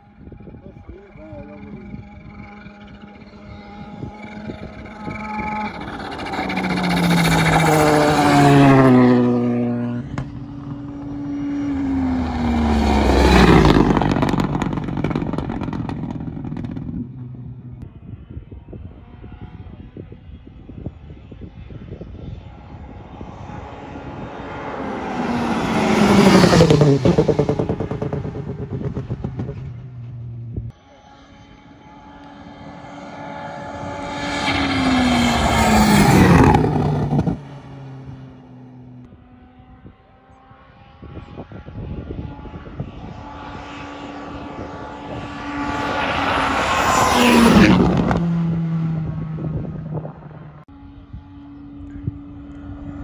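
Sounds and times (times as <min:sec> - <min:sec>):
rally cars passing at full speed: 0:00.0 - 0:53.0.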